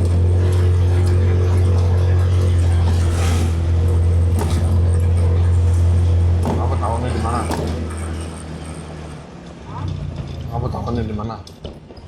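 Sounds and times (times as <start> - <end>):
vehicle engine drone: 0.0 - 11.7
road noise: 0.0 - 12.0.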